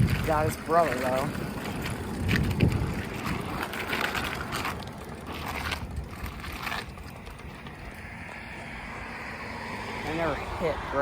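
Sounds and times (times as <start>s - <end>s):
bicycle rattles and clicks: 0.0s - 11.0s
wind rumbling on microphone: 0.0s - 11.0s.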